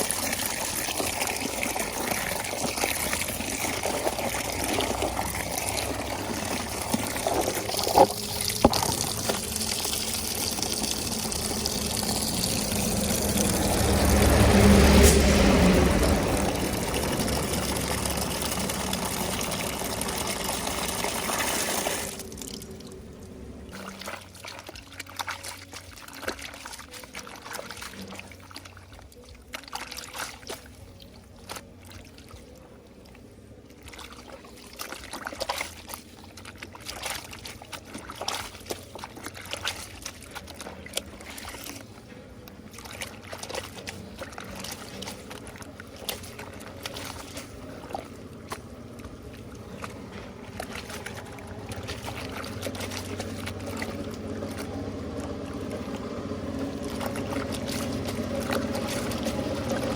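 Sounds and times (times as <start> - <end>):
water pouring: 0.0 - 59.9
water trickling and splashing: 0.0 - 59.9.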